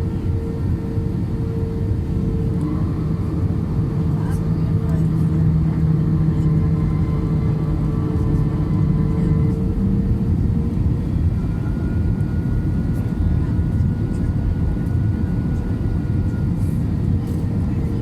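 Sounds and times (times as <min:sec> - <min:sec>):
airplane engine rumble: 0:00.0 - 0:18.0
higher engine whine: 0:00.0 - 0:18.0.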